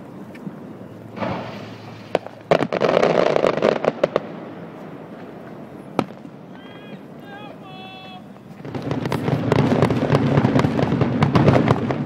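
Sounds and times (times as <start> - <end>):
firework crackling: 0.4 - 12.0
firework bangs: 1.1 - 12.0.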